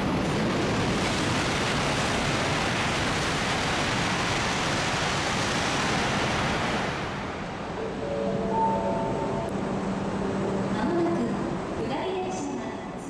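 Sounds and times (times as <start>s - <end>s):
high-speed train rushing past: 0.0s - 13.0s.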